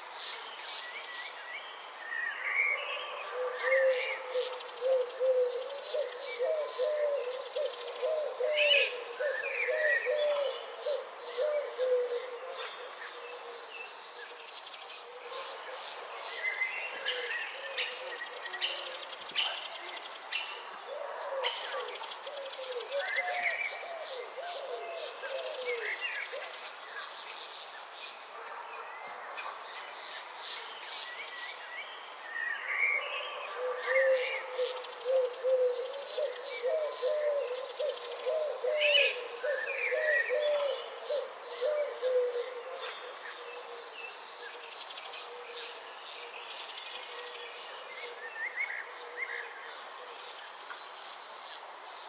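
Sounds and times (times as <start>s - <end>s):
high-pitched insect trill: 0.2s - 20.5s, 30.0s - 52.0s.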